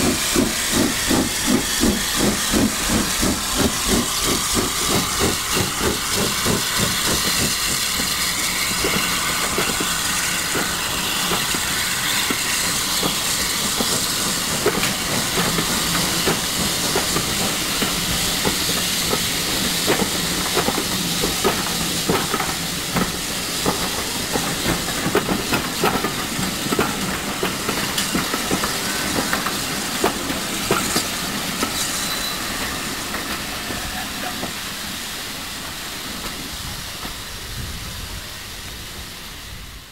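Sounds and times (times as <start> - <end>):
wheels clicking on track: 0.0 - 34.6
steam hissing: 0.0 - 39.9.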